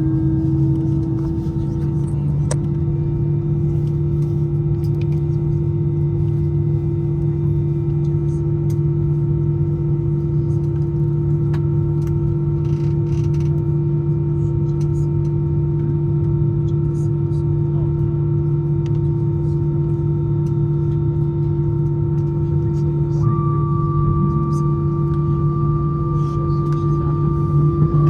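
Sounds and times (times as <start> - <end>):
aircraft cabin drone: 0.0 - 28.0.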